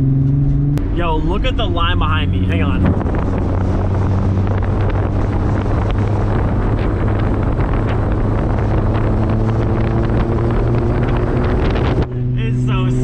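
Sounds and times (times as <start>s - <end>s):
car engine hum: 0.0s - 13.0s
road noise: 0.0s - 13.0s
wind buffeting microphone: 0.0s - 13.0s.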